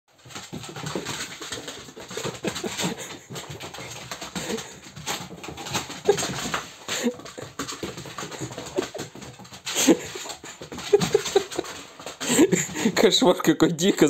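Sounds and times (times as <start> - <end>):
dog claws clicking on floor: 0.1 - 13.2.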